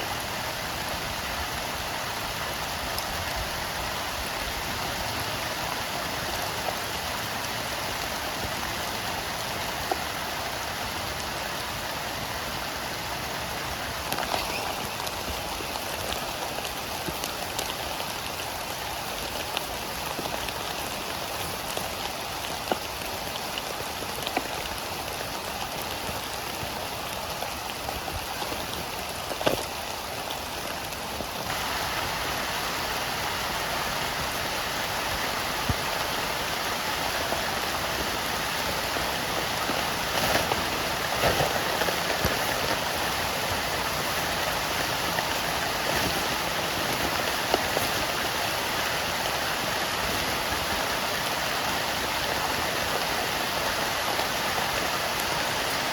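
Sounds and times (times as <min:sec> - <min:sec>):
heavy rain: 0:00.0 - 0:55.9
raindrops striking nearby: 0:00.0 - 0:55.9.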